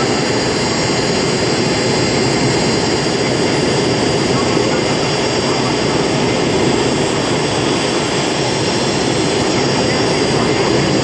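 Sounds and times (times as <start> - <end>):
high engine whine: 0.0 - 11.0
jet engine roar: 0.0 - 11.0.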